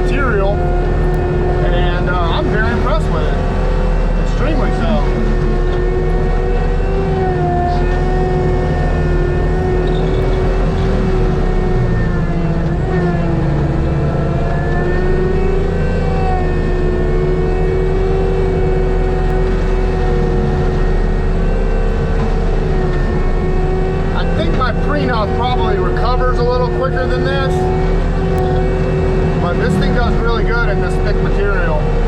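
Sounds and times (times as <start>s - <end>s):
diesel engine running hard: 0.0s - 32.0s.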